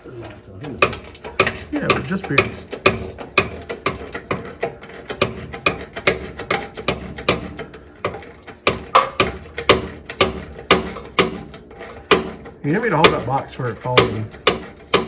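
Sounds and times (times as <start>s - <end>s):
hand ratchet clicking: 0.7s - 15.0s.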